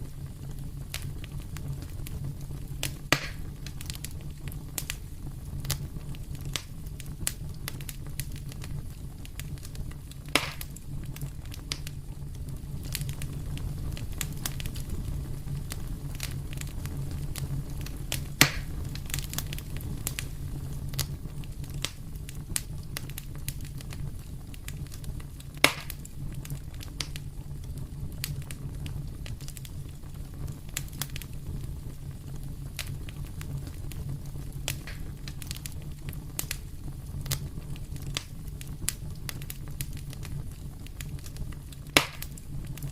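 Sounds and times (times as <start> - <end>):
loud fire pops: 0.0 - 42.9
low rumble of flames: 0.0 - 42.9
wood fire crackling: 0.0 - 42.9.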